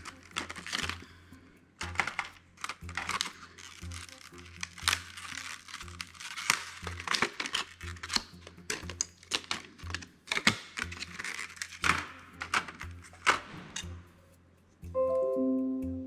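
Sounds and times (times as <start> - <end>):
plastic packaging crinkling: 0.0 - 1.1, 1.8 - 13.6.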